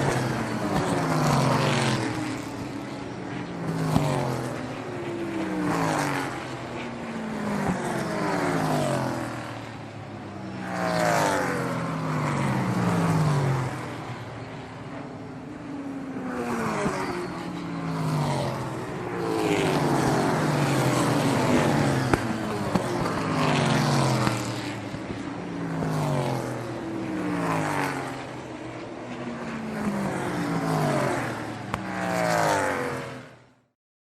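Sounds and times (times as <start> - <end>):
sports cars passing at speed: 0.0 - 33.7.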